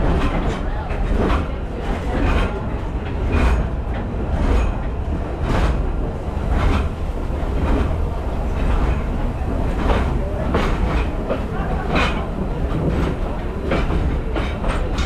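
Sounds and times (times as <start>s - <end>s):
steam train rumbling: 0.0s - 15.0s
rhythmic steam hissing: 2.6s - 15.0s.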